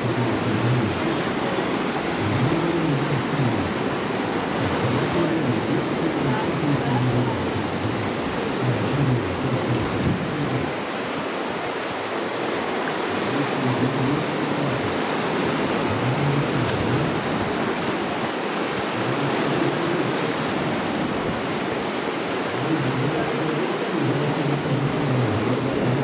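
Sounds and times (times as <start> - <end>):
whitewater rapids rushing: 0.0 - 26.0.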